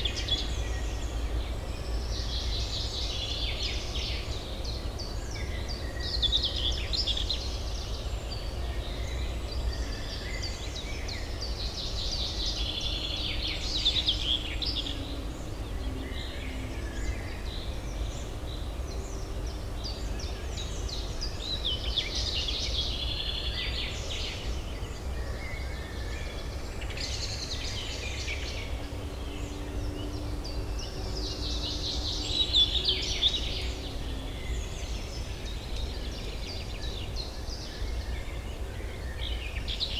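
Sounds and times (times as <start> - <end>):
low urban hum: 0.0 - 39.9
songbirds singing: 0.0 - 39.9.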